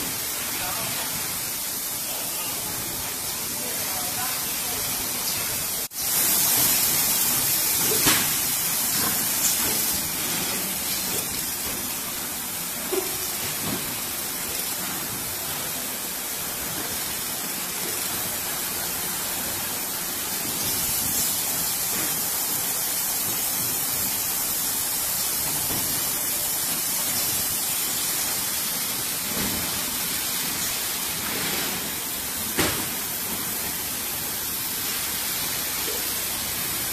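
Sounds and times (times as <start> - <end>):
filling machine hissing: 0.0 - 36.9.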